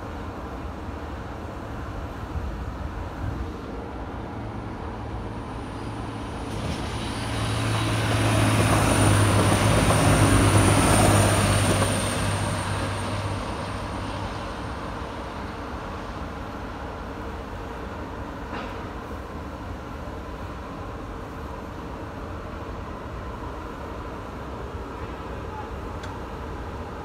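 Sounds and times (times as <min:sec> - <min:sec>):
train engine: 0:00.0 - 0:27.0
train wheels on rails: 0:03.0 - 0:27.0.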